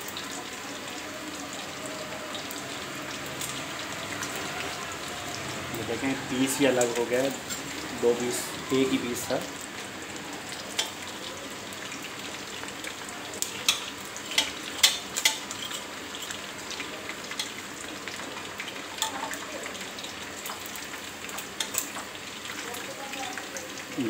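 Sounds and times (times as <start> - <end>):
oil sizzling deep-frying: 0.0 - 24.0.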